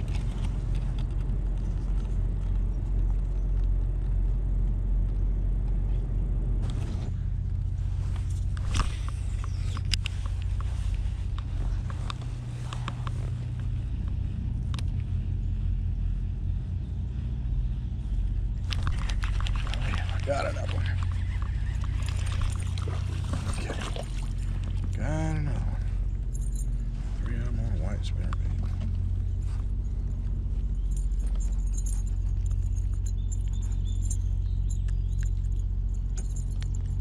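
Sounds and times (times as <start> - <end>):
boat motor humming: 0.0 - 3.8, 6.6 - 37.0.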